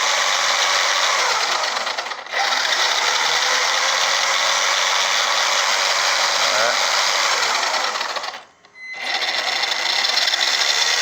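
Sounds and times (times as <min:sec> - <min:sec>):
electric motor whirring: 0:00.0 - 0:11.0.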